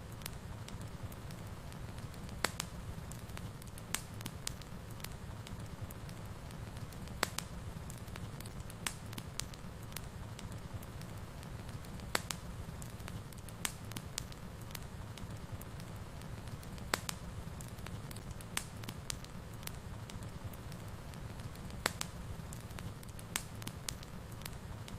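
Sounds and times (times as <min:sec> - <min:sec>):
fire rumbling in a fireplace: 0:00.0 - 0:24.9
wood crackling and popping: 0:00.0 - 0:24.9.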